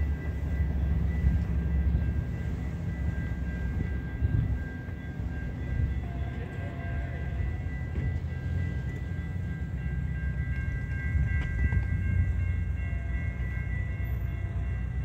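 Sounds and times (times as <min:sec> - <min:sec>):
steady high-pitched tones: 0:00.0 - 0:15.0
train rumbling: 0:00.0 - 0:15.0.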